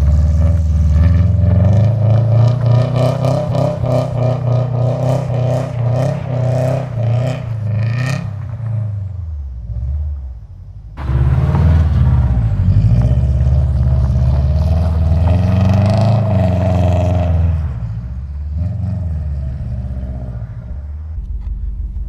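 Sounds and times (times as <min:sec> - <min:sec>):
car engine revving high: 0:00.0 - 0:10.4, 0:11.0 - 0:22.0
tyres spinning on snow: 0:00.0 - 0:21.1.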